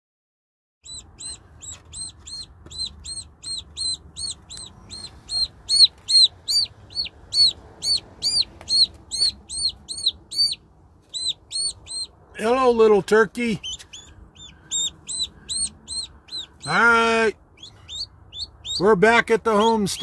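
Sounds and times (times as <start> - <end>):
chick peeping: 0.8 - 12.2, 13.5 - 20.0.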